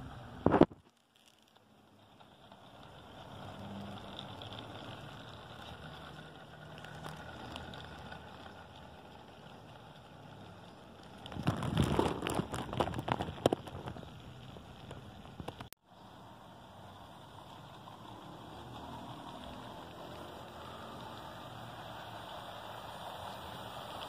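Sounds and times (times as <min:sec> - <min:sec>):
model train motor hum: 0:01.3 - 0:24.0.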